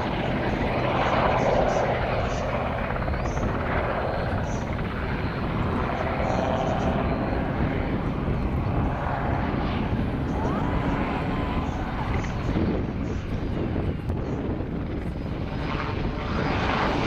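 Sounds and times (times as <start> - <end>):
helicopter rotor beat: 0.0 - 17.0.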